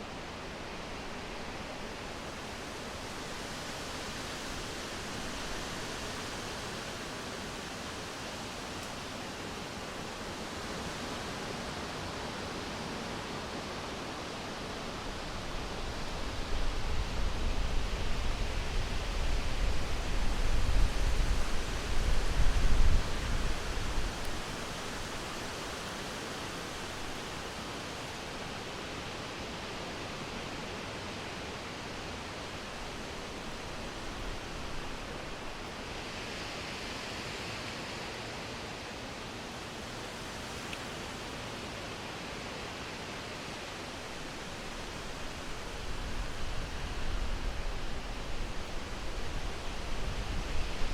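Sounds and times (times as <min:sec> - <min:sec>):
wind rushing through leaves: 0:00.0 - 0:50.9.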